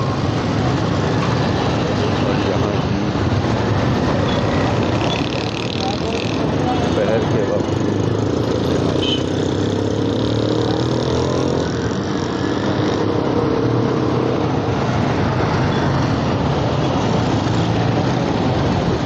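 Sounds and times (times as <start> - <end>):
motorcycle engine and road noise: 0.0 - 19.0.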